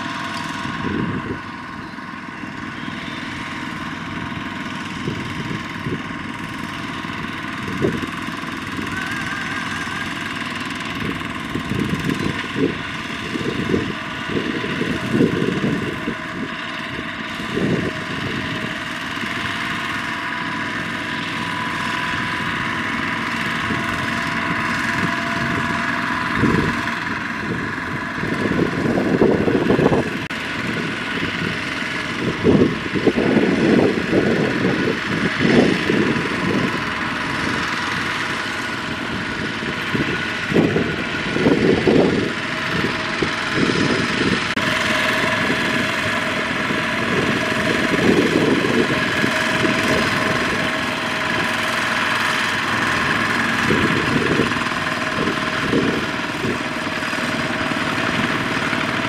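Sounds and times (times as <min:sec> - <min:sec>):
diesel tractor engines running: 0:00.0 - 0:59.0.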